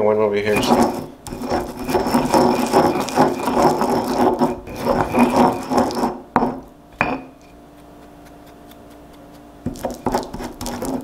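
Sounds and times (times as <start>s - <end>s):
stone pestle grinding on stone: 0.4s - 11.0s.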